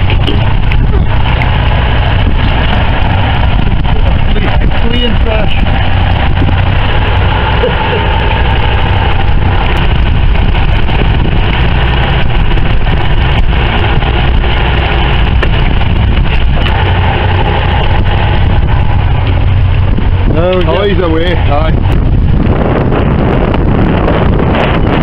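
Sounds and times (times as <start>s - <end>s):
boat engine idling: 0.0s - 25.0s
wind and sea hiss: 0.0s - 25.0s.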